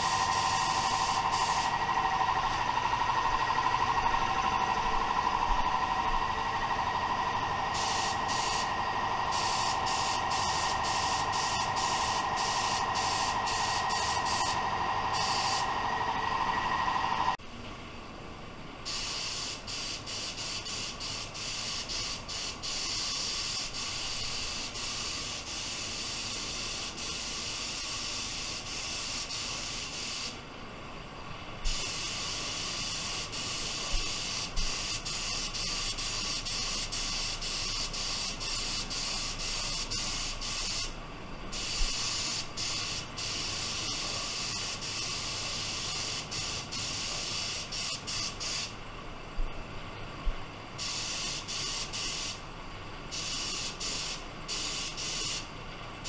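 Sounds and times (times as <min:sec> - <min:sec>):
paint spray gun hissing: 0:00.0 - 0:16.6, 0:18.9 - 0:30.4, 0:31.6 - 0:48.8, 0:50.8 - 0:52.5, 0:53.1 - 0:55.5.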